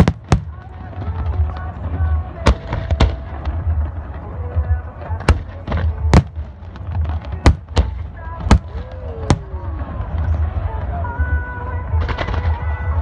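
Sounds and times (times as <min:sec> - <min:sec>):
fireworks booming overhead: 0:00.0 - 0:13.0
low rumble of explosions: 0:00.0 - 0:13.0.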